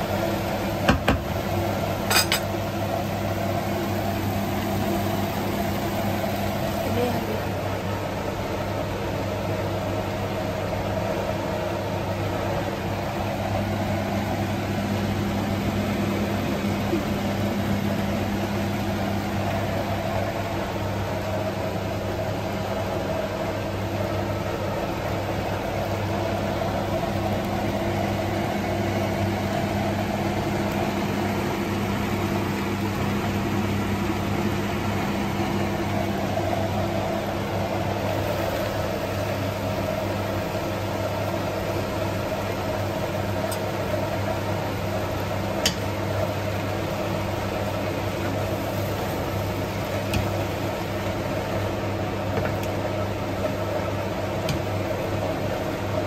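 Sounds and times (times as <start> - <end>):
induction hob hum and fan: 0.0 - 56.0.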